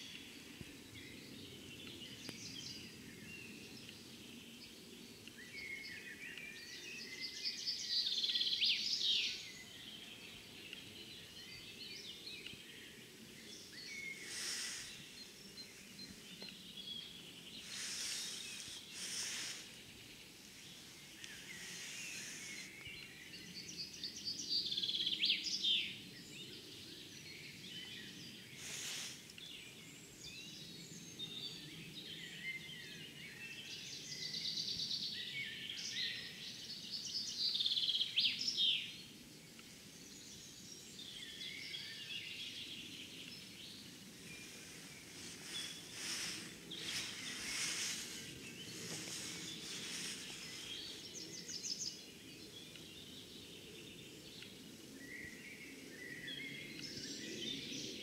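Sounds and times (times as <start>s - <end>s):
low outdoor background noise: 0.0s - 58.0s
songbirds singing: 0.0s - 58.0s.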